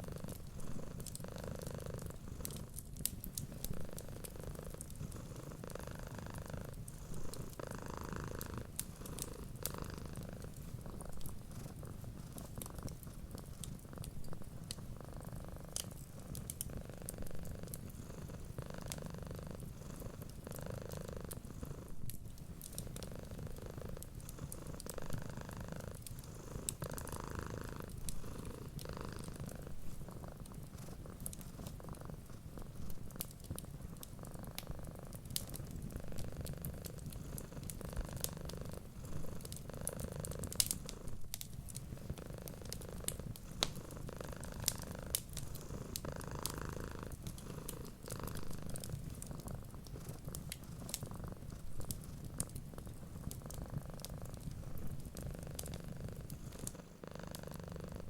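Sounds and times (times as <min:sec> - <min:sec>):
wood fire crackling: 0:00.0 - 0:21.4, 0:22.0 - 0:58.0
cat purring: 0:00.0 - 0:58.0.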